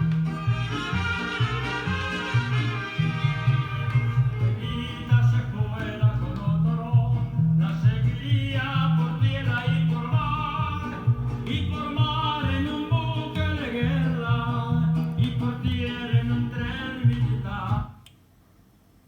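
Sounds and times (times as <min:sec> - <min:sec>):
song with singing and guitar: 0:00.0 - 0:18.0
faint background noise: 0:00.0 - 0:19.0.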